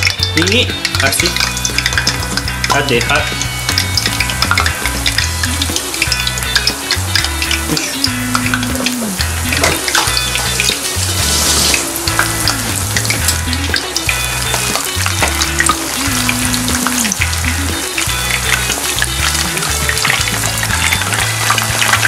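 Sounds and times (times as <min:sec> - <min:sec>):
background music with bass line: 0:00.0 - 0:22.0
tempura frying in hot oil: 0:00.0 - 0:22.0.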